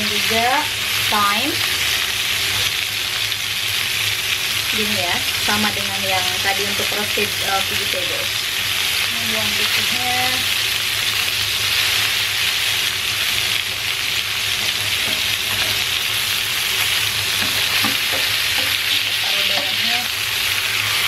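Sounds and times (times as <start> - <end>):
meat sizzling in hot oil: 0.0 - 21.0.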